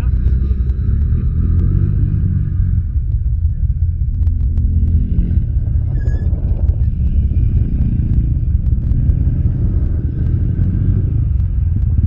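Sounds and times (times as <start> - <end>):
quad engines rumbling: 0.0 - 12.0.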